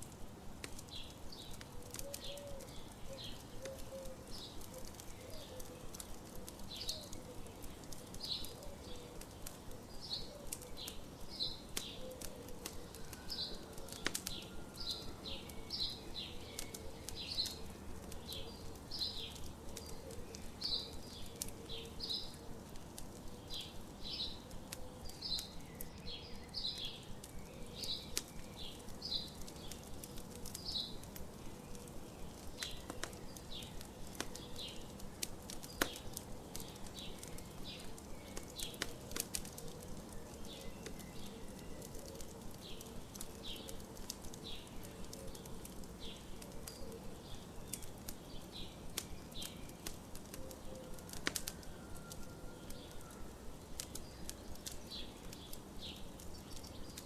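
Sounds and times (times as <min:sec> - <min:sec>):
campfire crackling and popping: 0:00.0 - 0:57.0
birds chirping: 0:00.8 - 0:51.7, 0:52.7 - 0:57.0.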